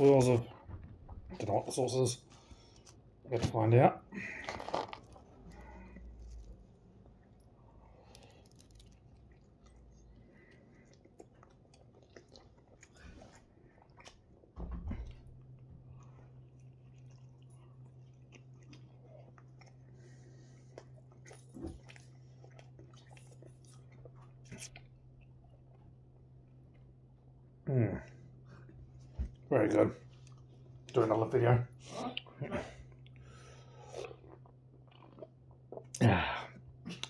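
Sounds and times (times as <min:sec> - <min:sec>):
steady low hum: 0:00.0 - 0:37.0
man chewing pizza: 0:04.2 - 0:31.2, 0:31.8 - 0:37.0.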